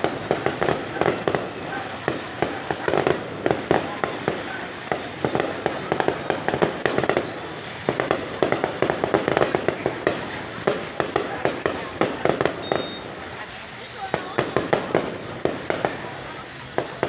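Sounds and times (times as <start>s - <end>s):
fireworks crackling pops and bangs: 0.0s - 17.0s.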